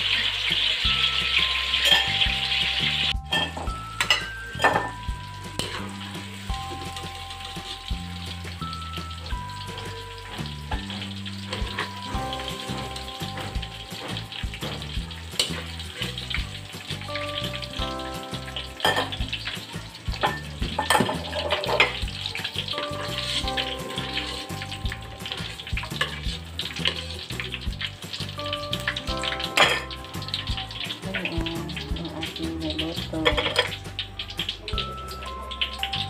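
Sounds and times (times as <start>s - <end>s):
background music with bass line: 0.0s - 36.0s
tofu sizzling in oil: 0.0s - 36.0s.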